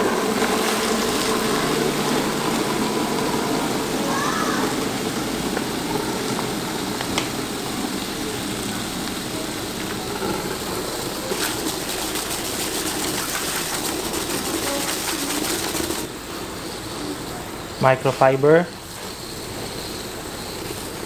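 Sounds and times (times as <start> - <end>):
water running into a bucket: 0.0 - 21.0.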